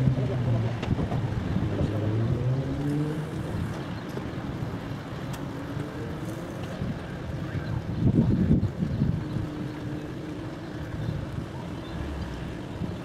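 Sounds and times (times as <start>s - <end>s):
ship diesel engine droning: 0.0s - 13.0s
wind noise: 0.0s - 13.0s.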